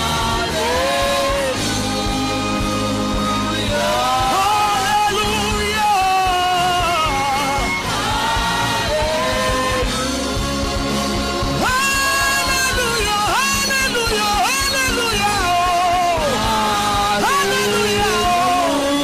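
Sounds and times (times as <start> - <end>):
person singing: 0.0 - 10.3, 11.6 - 19.0
sustained instrumental backing: 0.0 - 19.0.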